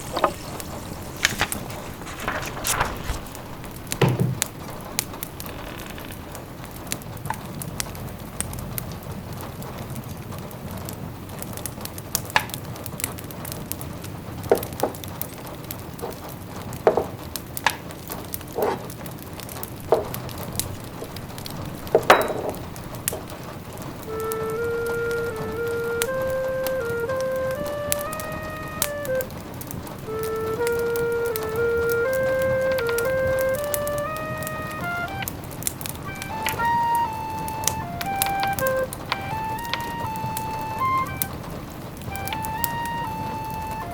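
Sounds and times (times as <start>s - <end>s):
soft hiss of rain: 0.0s - 43.9s
wood fire crackling and popping: 0.0s - 43.9s.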